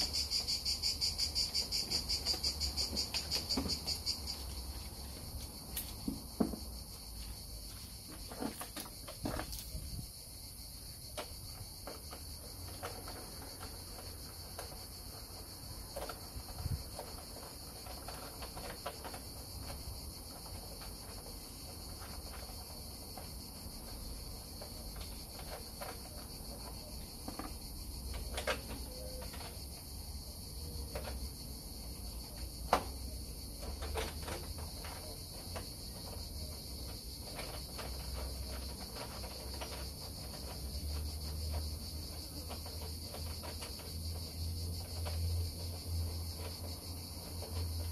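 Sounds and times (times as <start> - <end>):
crickets trilling: 0.0 - 47.9.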